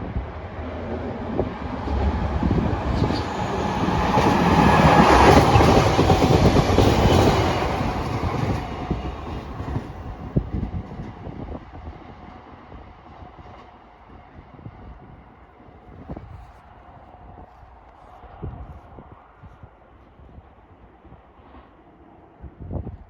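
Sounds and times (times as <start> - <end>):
train rumble and wheel clatter: 0.0 - 22.4.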